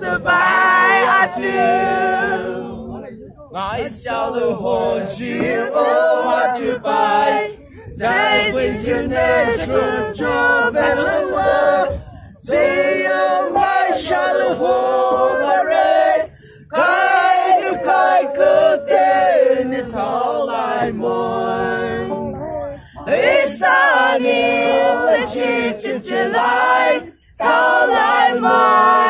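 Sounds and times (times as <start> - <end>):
group singing unaccompanied: 0.0 - 29.0.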